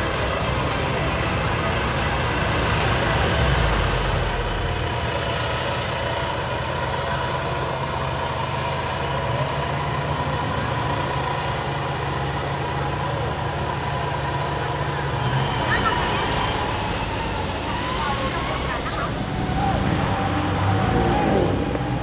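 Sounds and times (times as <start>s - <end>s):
off-road vehicle engines running: 0.0s - 22.0s.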